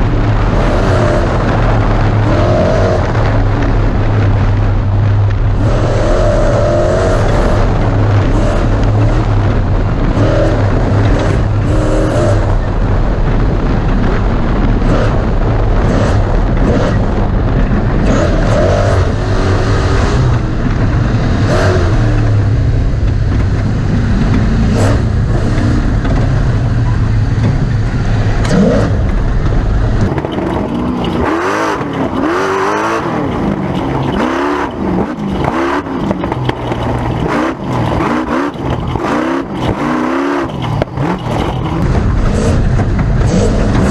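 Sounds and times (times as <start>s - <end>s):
heavy low rumble: 0.0s - 43.9s
truck engine revving: 0.0s - 43.9s.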